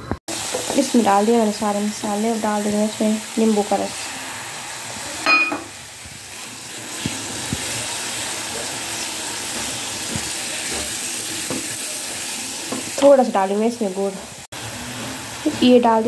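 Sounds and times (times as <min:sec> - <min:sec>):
chutney sizzling in hot oil: 0:00.3 - 0:16.0.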